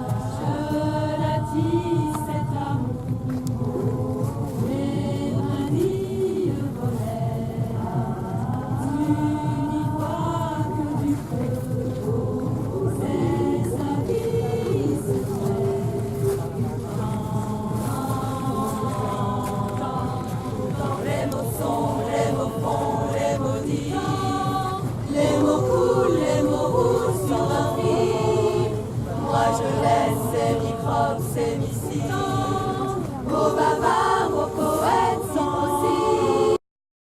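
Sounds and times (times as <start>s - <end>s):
choir singing in harmony: 0.0s - 36.6s.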